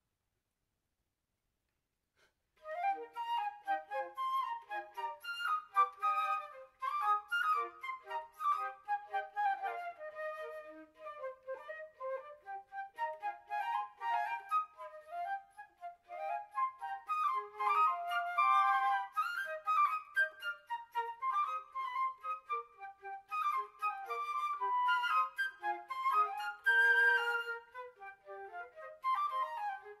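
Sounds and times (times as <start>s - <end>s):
flutes playing in harmony: 2.6s - 30.0s.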